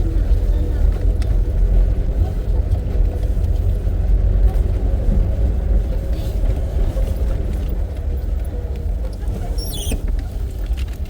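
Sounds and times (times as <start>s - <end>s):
low rumble of vehicle ride: 0.0s - 11.0s
vehicle engine drone: 0.0s - 11.0s.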